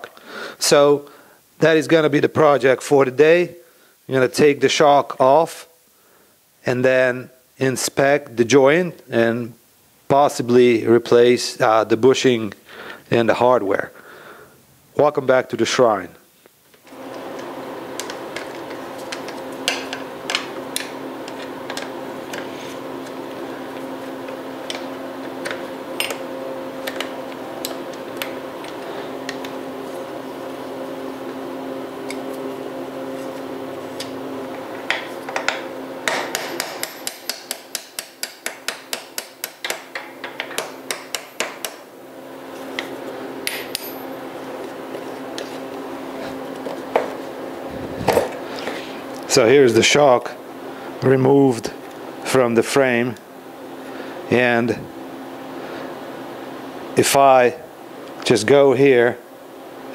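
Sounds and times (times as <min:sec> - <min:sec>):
steady low hum: 0:05.8 - 0:59.9.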